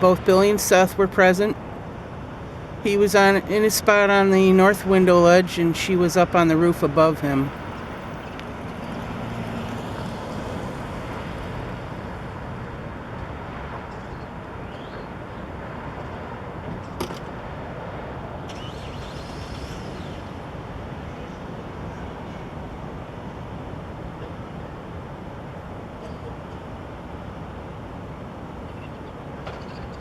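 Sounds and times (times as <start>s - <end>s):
city traffic noise: 0.0s - 30.0s.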